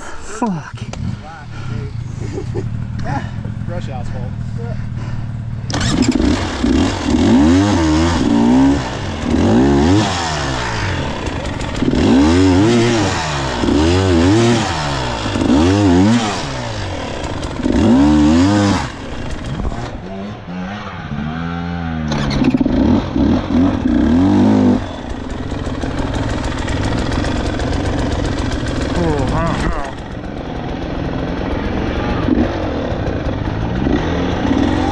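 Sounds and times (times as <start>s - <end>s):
dirt bike engine revving hard: 5.7s - 34.9s.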